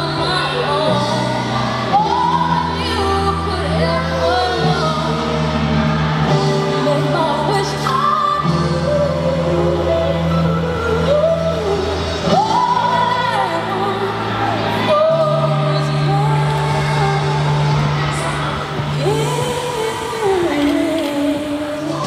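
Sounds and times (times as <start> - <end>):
person singing: 0.0 - 22.0.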